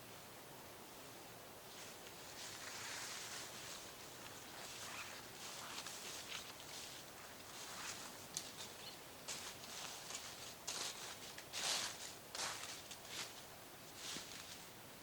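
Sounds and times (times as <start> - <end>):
rustling: 1.7 - 14.7
footsteps on rough ground: 1.8 - 14.6.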